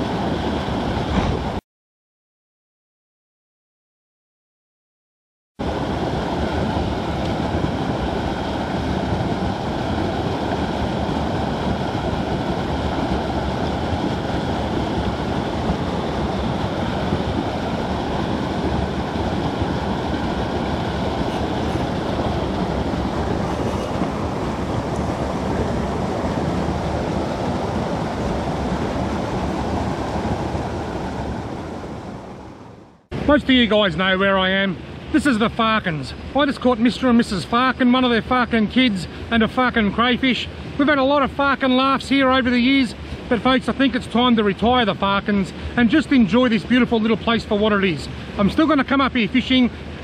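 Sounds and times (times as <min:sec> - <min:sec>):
creek water rushing over cascade: 0:05.6 - 0:50.0.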